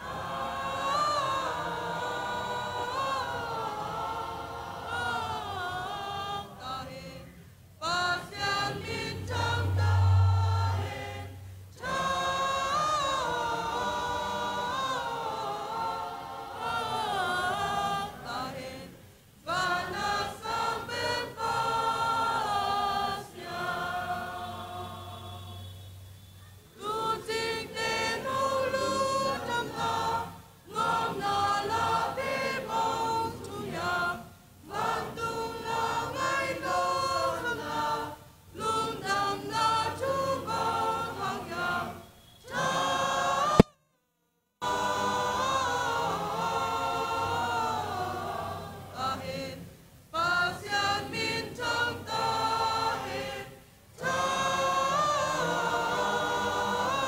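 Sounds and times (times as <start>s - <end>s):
youth choir singing: 0.0s - 43.7s, 44.6s - 57.0s.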